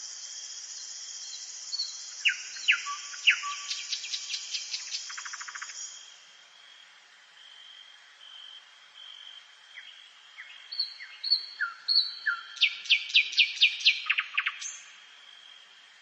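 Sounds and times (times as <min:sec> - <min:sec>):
songbird singing: 0:00.0 - 0:15.8.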